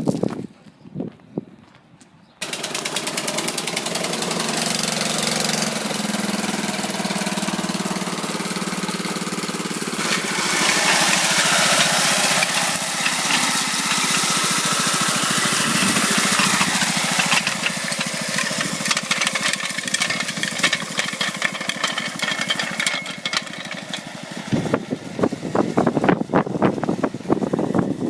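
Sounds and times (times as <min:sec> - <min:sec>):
lawn mower engine running: 0:02.4 - 0:28.0.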